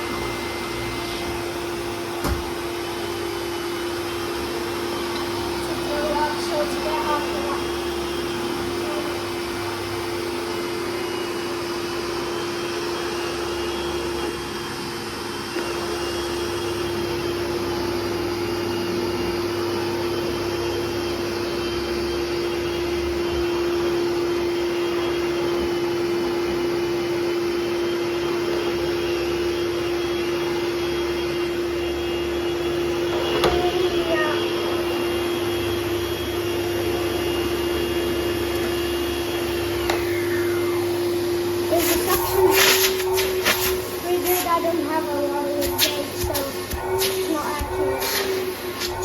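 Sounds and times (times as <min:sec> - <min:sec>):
vacuum cleaner running: 0:00.0 - 0:49.0.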